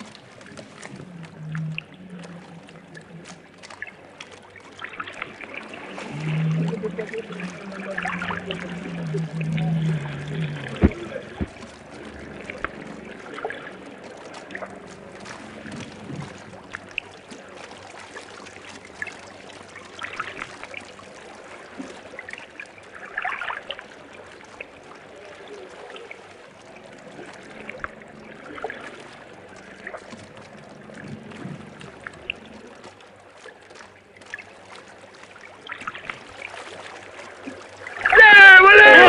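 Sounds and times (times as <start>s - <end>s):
water splashing around boats: 0.0s - 39.0s.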